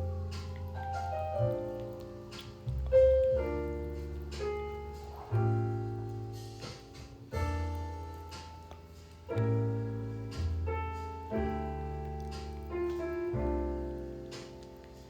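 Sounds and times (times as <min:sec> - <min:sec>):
piano chords with low bass notes: 0:00.0 - 0:15.0.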